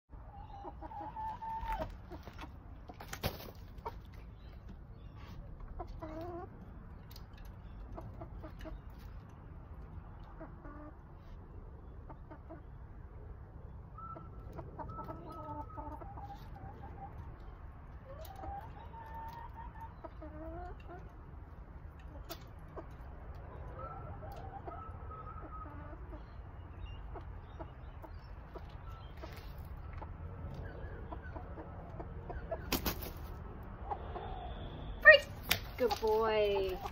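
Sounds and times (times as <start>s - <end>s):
chicken clucking: 0.2s - 12.8s, 13.9s - 34.8s, 35.5s - 36.9s.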